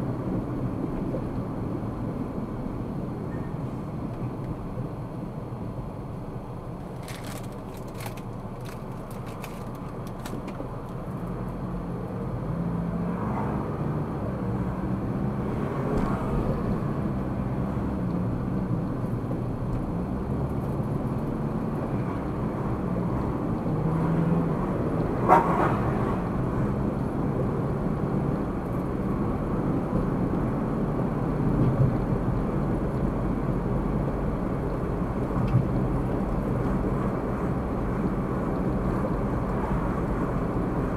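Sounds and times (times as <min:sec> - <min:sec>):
car engine and tyre noise: 0:00.0 - 0:40.9.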